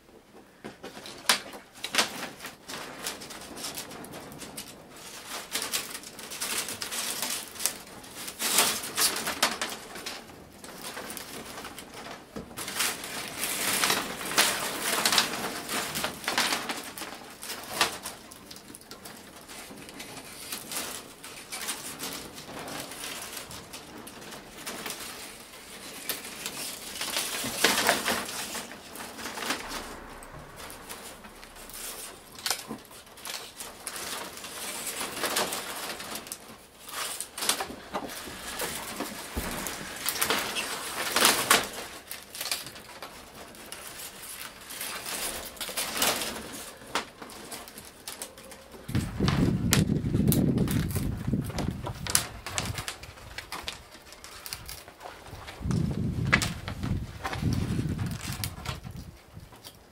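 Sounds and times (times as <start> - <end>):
bamboo strips rustling and clicking: 0.0 - 59.9.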